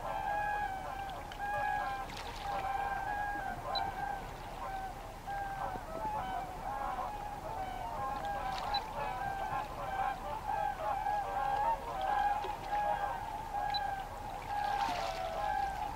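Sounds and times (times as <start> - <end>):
waterfowl calling: 0.0 - 15.9.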